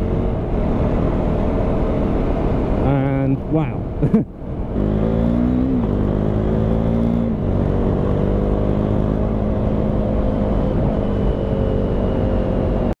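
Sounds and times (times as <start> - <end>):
wind rush: 0.0 - 12.9.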